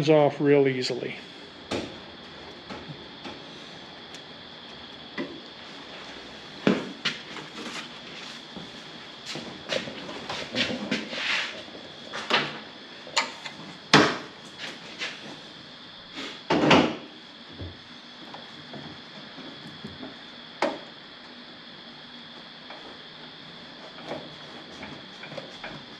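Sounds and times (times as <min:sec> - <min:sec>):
faint high whine: 0:00.0 - 0:25.9.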